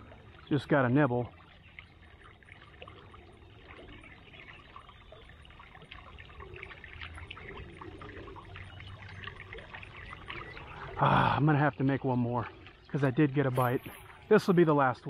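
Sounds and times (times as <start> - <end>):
water trickling down concrete spillway: 0.0 - 15.0.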